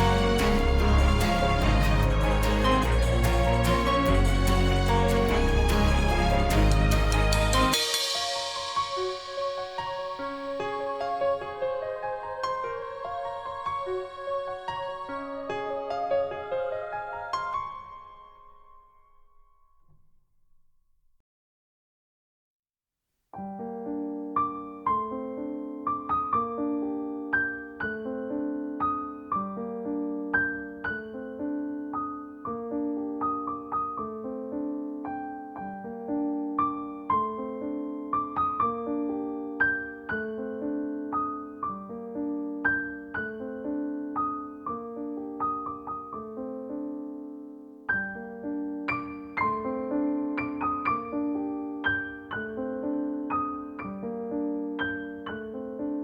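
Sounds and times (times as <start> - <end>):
soft piano music: 0.0 - 19.4, 23.4 - 56.0.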